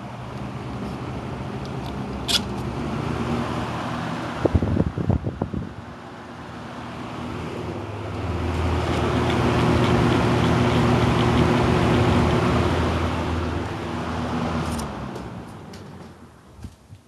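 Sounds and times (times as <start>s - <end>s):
fan blades rushing air: 0.0s - 17.0s
low motor hum: 0.0s - 17.0s.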